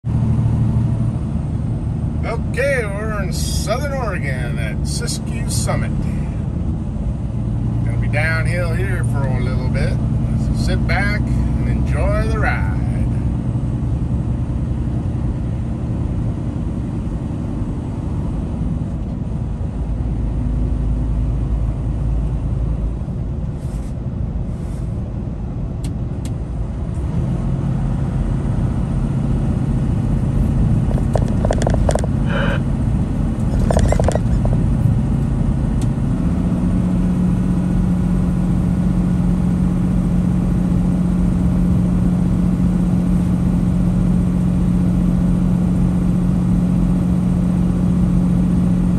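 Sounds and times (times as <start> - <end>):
road noise: 0.0 - 48.9
truck diesel engine droning: 0.0 - 48.9.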